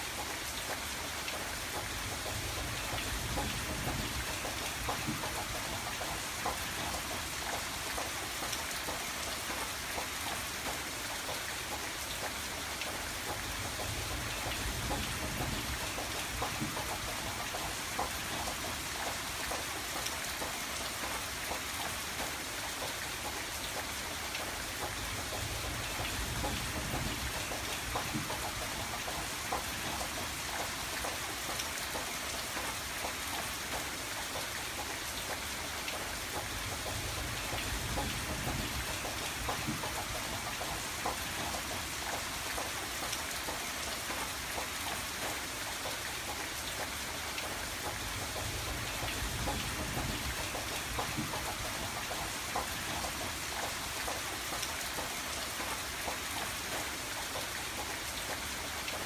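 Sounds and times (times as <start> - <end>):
rain pattering on window glass: 0.1 - 59.0.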